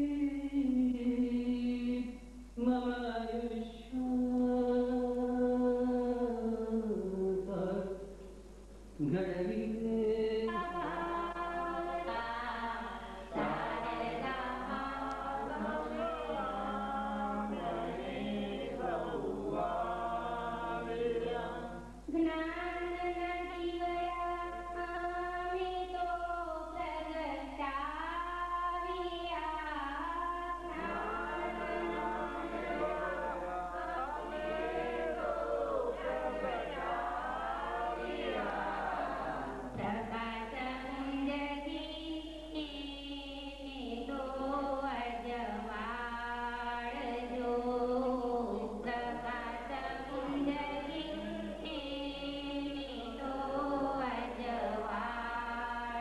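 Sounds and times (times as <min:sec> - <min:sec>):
voices singing: 0:09.0 - 0:56.0.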